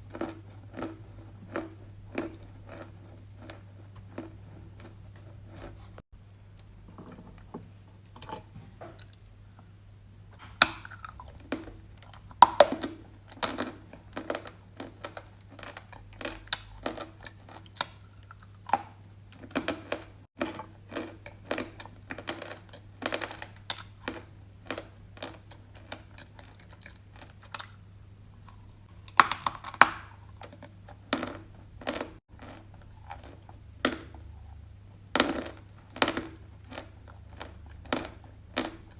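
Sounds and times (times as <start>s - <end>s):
chewing crunchy clay: 0.0s - 6.0s, 10.4s - 38.9s.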